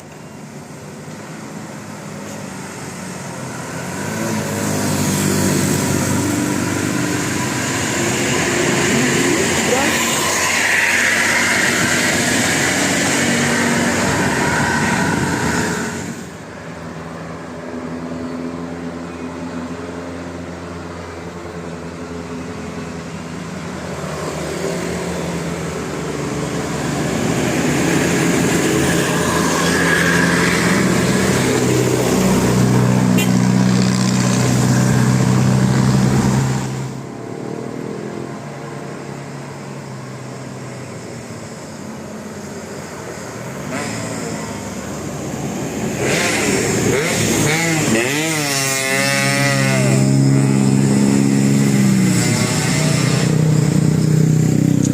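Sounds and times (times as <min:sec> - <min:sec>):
trucks or buses driving past: 0:00.0 - 0:54.9.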